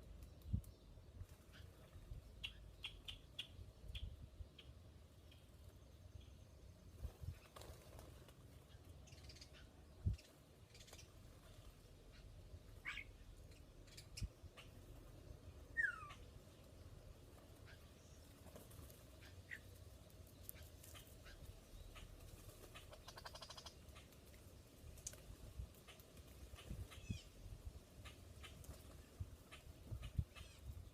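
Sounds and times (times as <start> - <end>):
birds chirping: 0.1 - 30.9.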